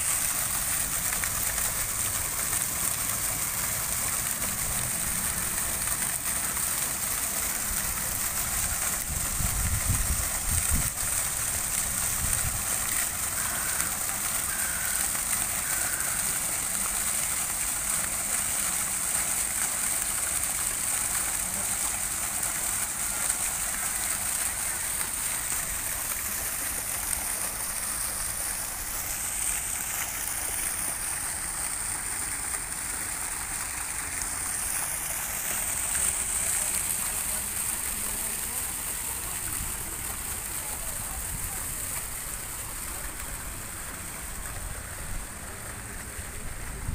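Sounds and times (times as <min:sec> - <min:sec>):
water trickling over rocks: 0:00.0 - 0:46.9.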